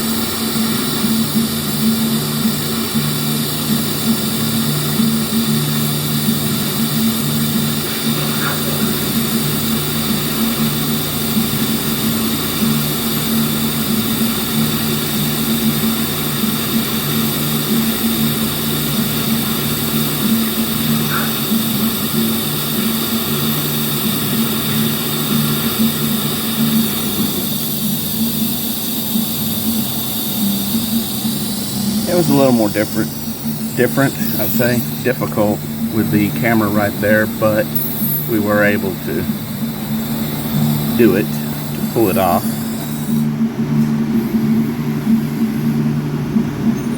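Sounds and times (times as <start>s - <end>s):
welding arc buzzing and hissing: 0.0s - 46.9s.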